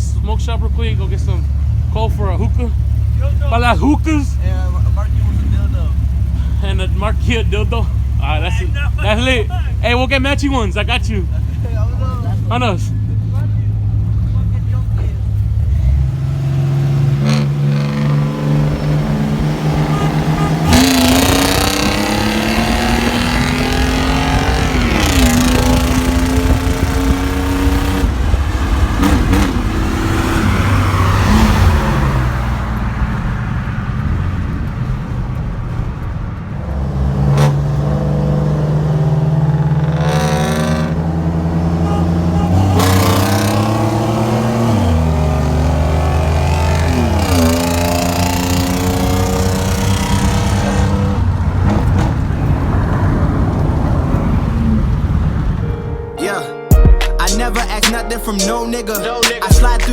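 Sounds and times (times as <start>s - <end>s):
intake and exhaust surge: 0.0s - 56.0s
car engine accelerating: 0.0s - 56.1s, 57.0s - 59.9s.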